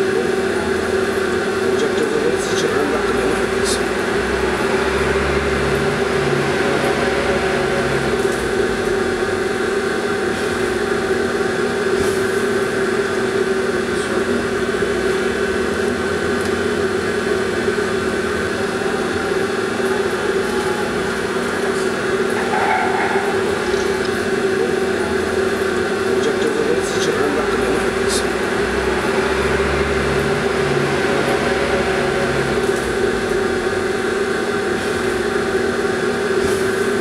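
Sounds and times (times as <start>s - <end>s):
mechanical hum: 0.0s - 37.0s.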